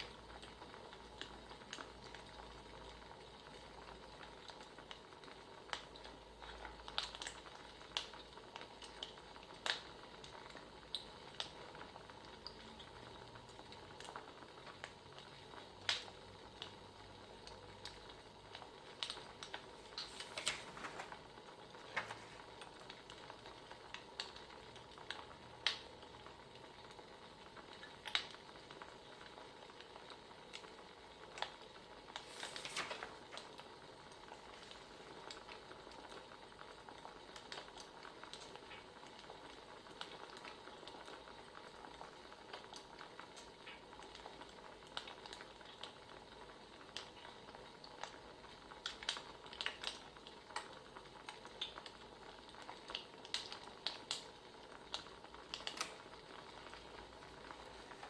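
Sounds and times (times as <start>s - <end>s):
wood fire crackling: 0.0s - 58.0s
fire popping: 4.2s - 44.2s, 48.8s - 58.0s.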